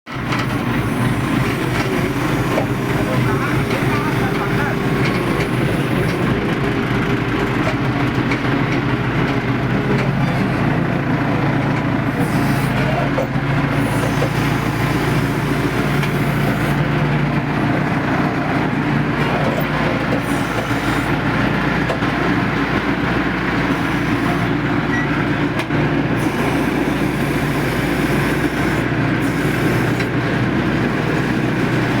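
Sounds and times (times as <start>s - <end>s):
heavy diesel machinery running: 0.1s - 32.0s.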